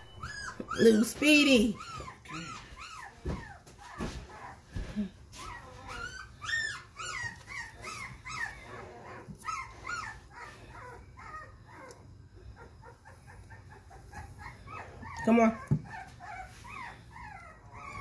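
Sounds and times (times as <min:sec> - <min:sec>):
puppy whimpering: 0:00.0 - 0:18.0.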